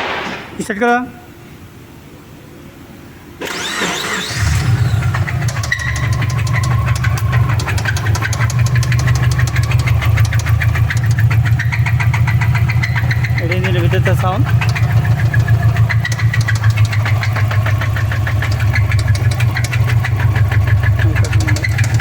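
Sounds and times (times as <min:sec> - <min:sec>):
engine starter cranking: 0:03.4 - 0:22.0
engine idling with ticking knock: 0:04.4 - 0:22.0.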